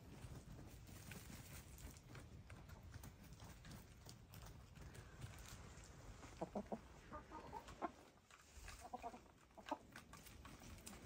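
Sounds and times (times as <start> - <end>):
scratchy rustle of dirt: 0.0 - 9.2
hens clucking softly: 0.1 - 11.0.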